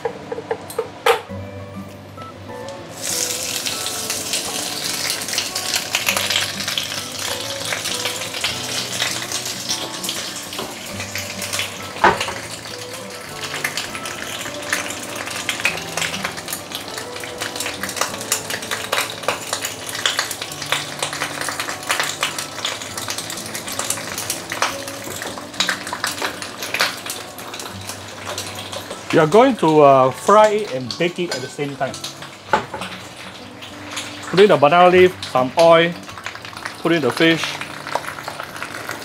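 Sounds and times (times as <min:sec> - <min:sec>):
leaves crackling in hot oil: 0:02.9 - 0:39.0.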